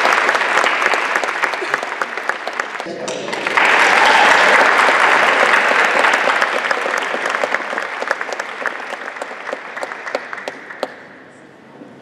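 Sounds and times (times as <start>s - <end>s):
audience applause: 0.0s - 11.1s.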